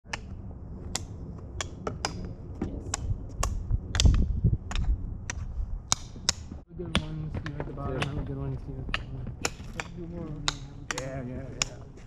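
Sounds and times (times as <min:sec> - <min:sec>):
plastic pucks clacking: 0:00.1 - 0:02.3, 0:02.9 - 0:12.0
low rumble: 0:00.1 - 0:12.0.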